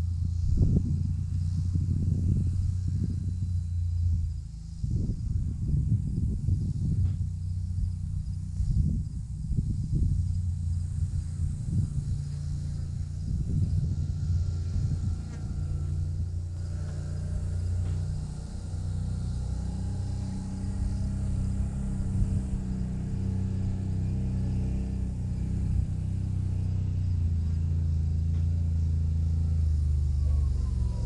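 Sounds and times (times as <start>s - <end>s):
motor humming: 0.0s - 31.0s.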